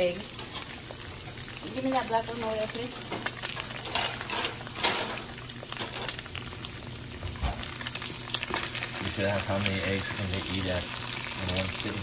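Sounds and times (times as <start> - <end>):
eggs sizzling in a pan: 0.0 - 12.0.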